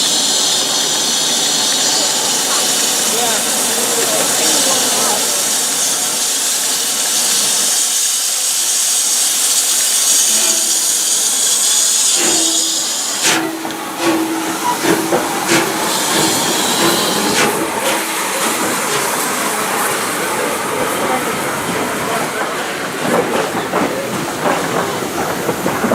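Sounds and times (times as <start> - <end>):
locomotive steam hissing: 0.0 - 25.9.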